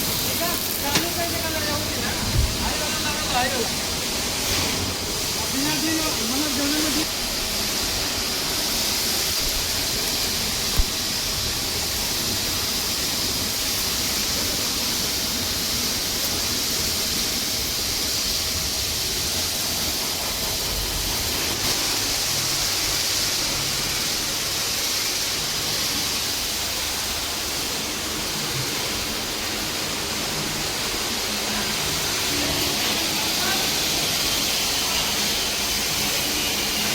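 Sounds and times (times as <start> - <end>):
steady hissing noise: 0.0 - 36.9.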